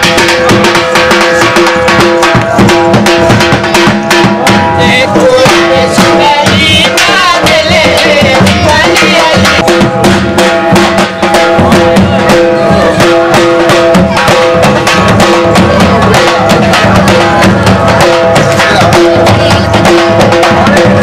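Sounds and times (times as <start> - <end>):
dhol drums beating: 0.0 - 21.0.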